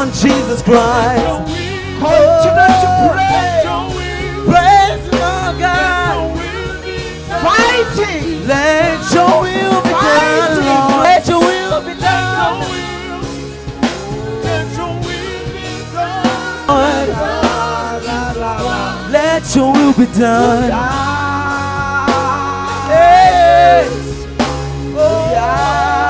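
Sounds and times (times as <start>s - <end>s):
band with steady drum beat: 0.0s - 26.0s
person singing worship song: 0.0s - 26.0s.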